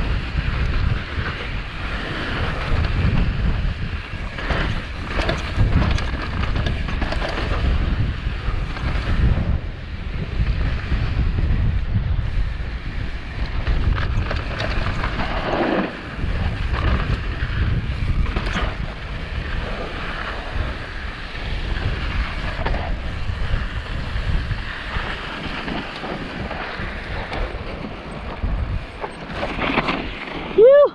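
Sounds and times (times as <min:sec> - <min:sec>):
bike clattering over bumps: 0:00.0 - 0:11.9, 0:12.9 - 0:30.6
bike tyre noise: 0:00.0 - 0:30.9
wind on microphone: 0:00.0 - 0:30.9.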